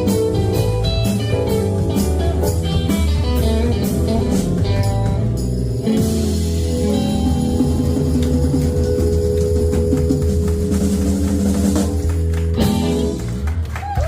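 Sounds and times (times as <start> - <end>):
drum kit cymbal beat: 0.0 - 13.4
live blues band: 0.0 - 14.0.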